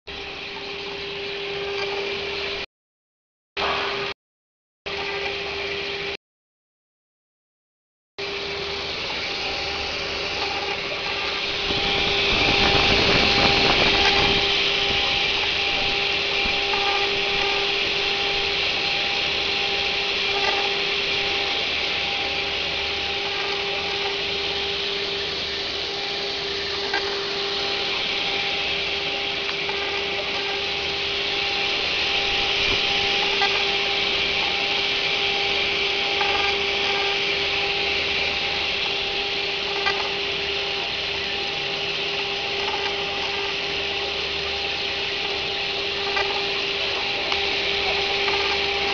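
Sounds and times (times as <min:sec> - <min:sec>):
engraving spindle whine: 0:00.1 - 0:02.7, 0:03.6 - 0:04.2, 0:04.9 - 0:06.2, 0:08.2 - 0:48.9
cutter grinding stone: 0:08.2 - 0:48.9.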